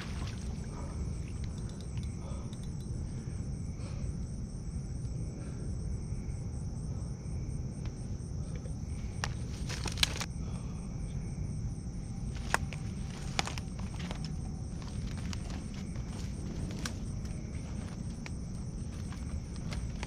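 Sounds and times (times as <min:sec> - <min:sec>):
crickets trilling: 0:00.0 - 0:20.0
steady low rumble: 0:00.0 - 0:20.0.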